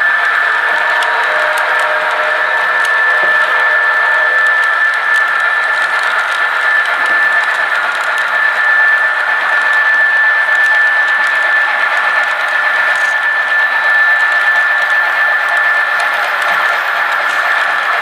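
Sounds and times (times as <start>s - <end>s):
model train motor whine: 0.0s - 18.0s.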